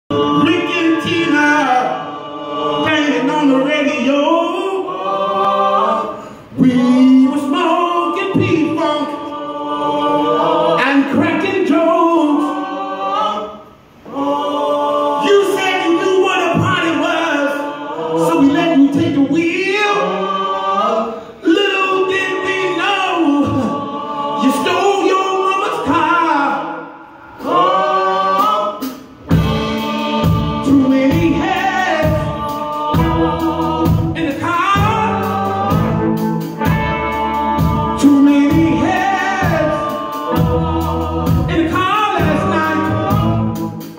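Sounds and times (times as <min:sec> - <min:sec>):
group singing in harmony: 0:00.1 - 0:43.9.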